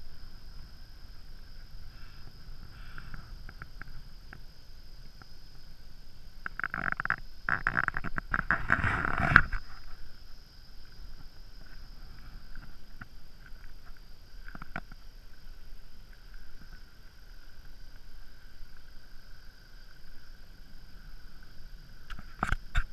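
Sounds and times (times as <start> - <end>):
faint hum with high whine: 0.0 - 22.9.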